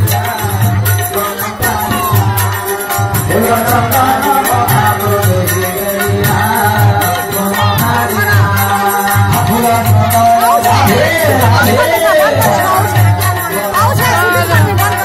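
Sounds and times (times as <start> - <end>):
devotional singing: 0.0 - 15.0
steady drum beat: 0.0 - 15.0.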